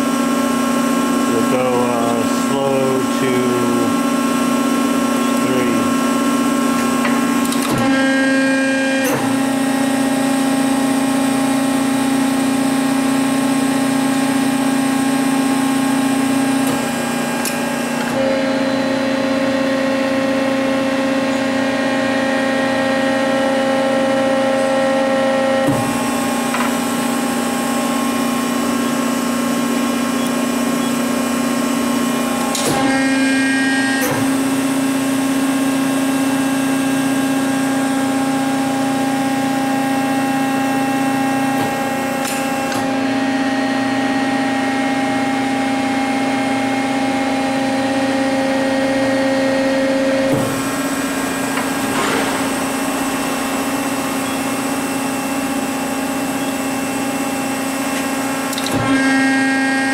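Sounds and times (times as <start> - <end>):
hydraulic pump humming: 0.0 - 59.9.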